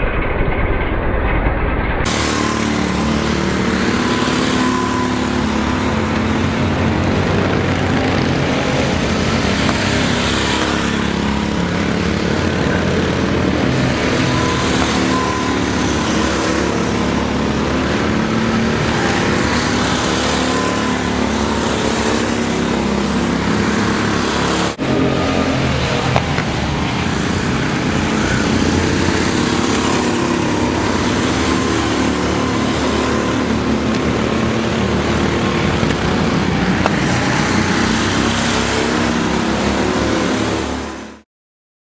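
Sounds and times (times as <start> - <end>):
go-kart engines running hard: 2.0 - 41.2.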